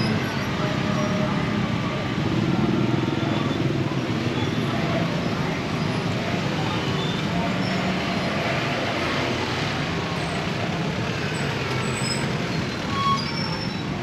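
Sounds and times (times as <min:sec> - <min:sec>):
passing vehicles: 0:00.0 - 0:14.0.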